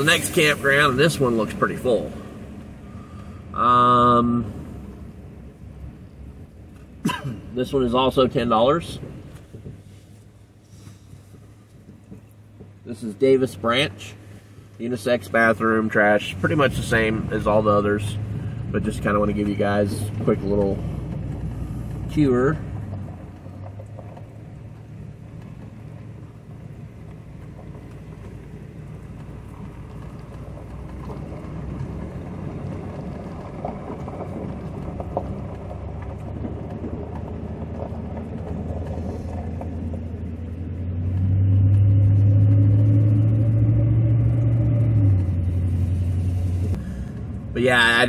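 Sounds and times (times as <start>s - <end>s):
truck engine and road drone: 0.0s - 48.0s.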